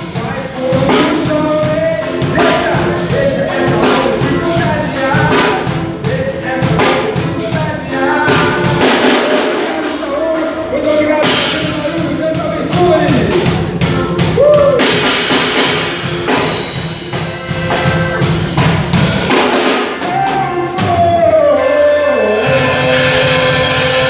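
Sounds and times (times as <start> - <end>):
person singing: 0.0 - 15.7, 19.2 - 24.0
rock band playing: 0.0 - 24.0.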